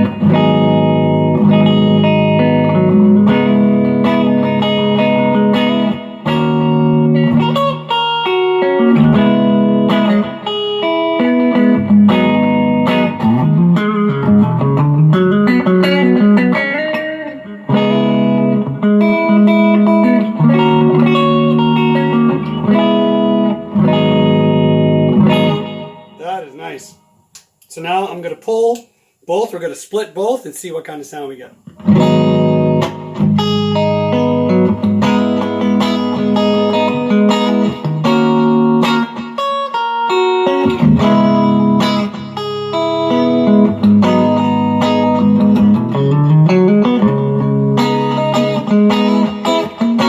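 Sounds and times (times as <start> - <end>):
electric guitar chords: 0.0 - 27.6, 31.6 - 50.0
electric guitar single notes: 0.0 - 27.6, 31.6 - 50.0.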